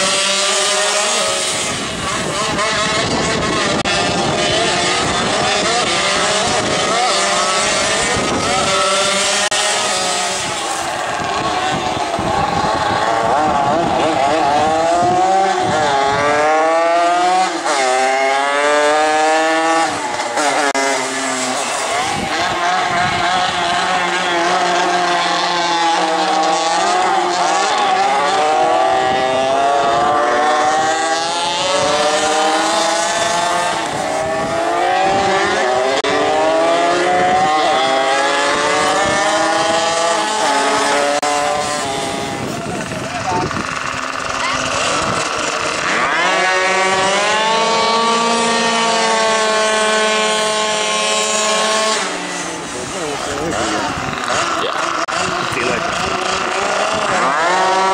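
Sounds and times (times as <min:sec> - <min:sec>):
mopeds revving and accelerating: 0:00.0 - 0:57.9.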